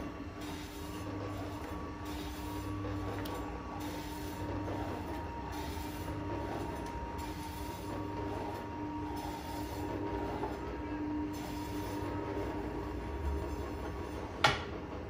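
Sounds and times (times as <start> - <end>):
electric meat slicer motor hum: 0.0 - 15.0.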